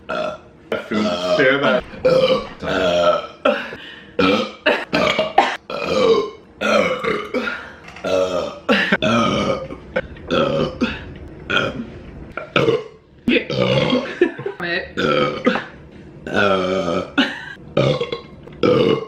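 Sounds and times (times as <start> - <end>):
woman burping: 0.1 - 19.0.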